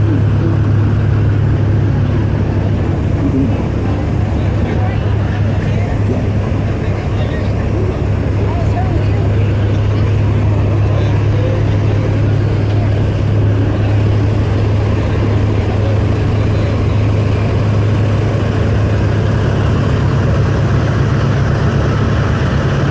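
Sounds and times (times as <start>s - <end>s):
diesel truck engine idling: 0.0s - 22.9s.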